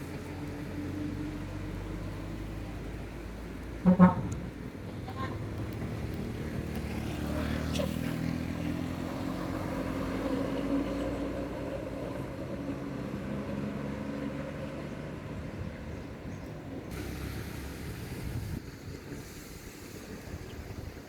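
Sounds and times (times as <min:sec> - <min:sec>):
bus engine passing by: 0:00.0 - 0:21.0.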